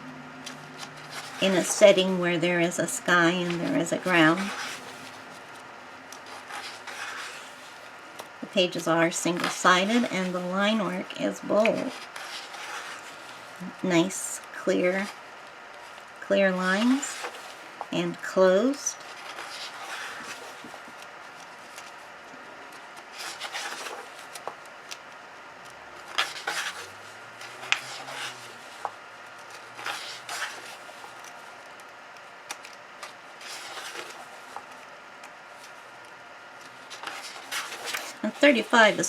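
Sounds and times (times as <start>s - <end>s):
paper pages turning: 0.4s - 39.0s.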